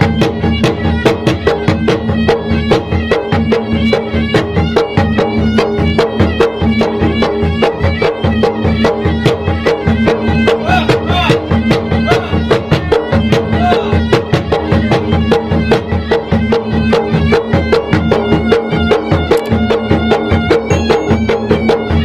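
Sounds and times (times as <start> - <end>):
drums in fast rhythm: 0.0 - 22.0
reedy wind instrument melody: 0.0 - 22.0.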